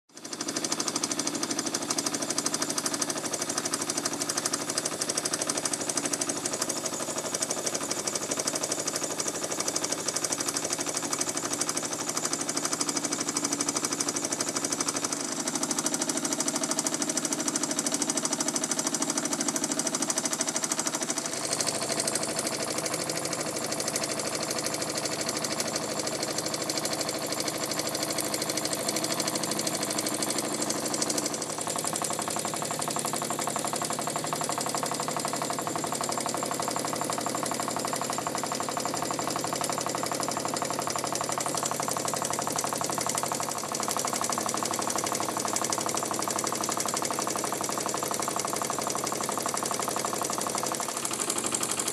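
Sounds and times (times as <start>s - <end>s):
toy steam engine knocking: 0.2s - 51.9s.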